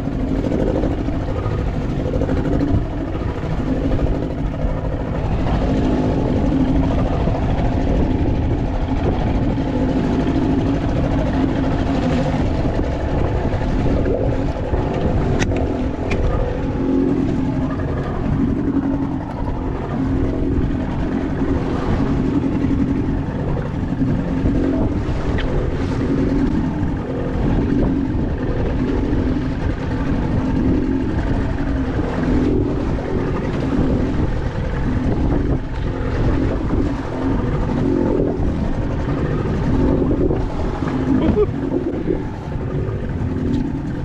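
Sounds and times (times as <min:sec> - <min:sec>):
boat motor humming: 0:00.0 - 0:44.0
water: 0:00.0 - 0:44.0
wind noise: 0:00.0 - 0:44.0.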